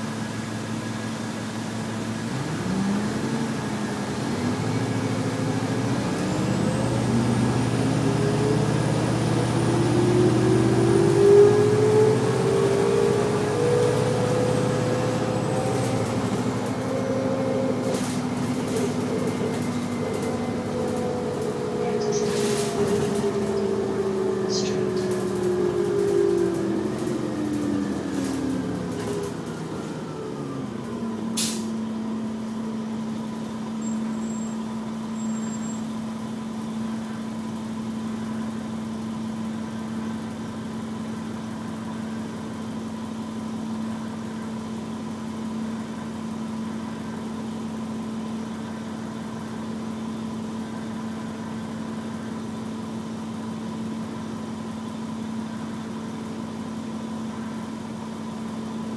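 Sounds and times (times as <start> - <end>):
bus engine: 0.0 - 58.9.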